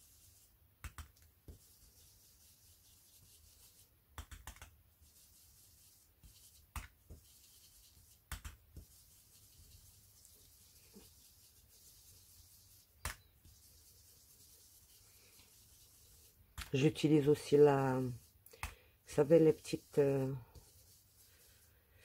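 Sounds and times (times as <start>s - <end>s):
ink dabbing through stencil: 0.0s - 22.0s.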